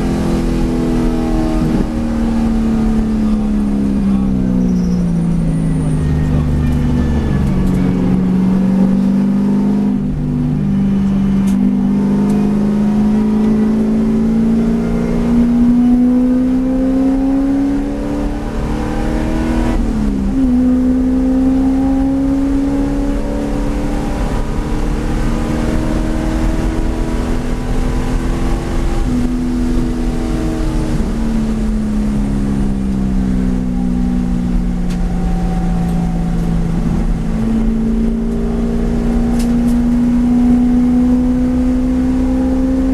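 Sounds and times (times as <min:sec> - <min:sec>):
race car engine accelerating: 0:00.0 - 0:42.9.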